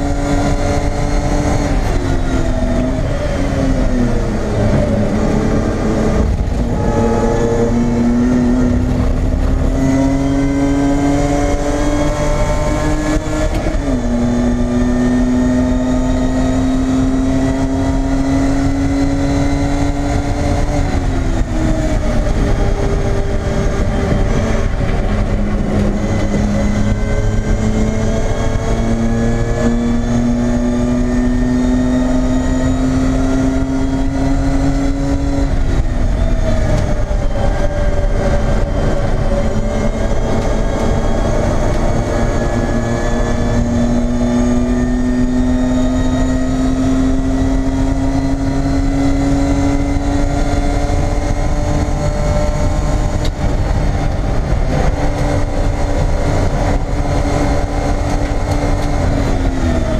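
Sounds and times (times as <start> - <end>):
race car engine from inside cabin: 0.0 - 59.9.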